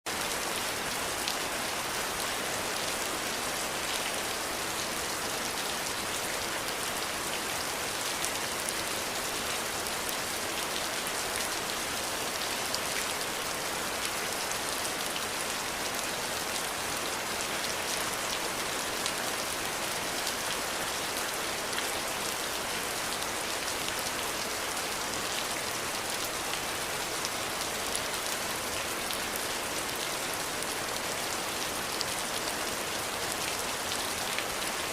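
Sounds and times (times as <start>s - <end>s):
steady rain falling: 0.1s - 34.9s.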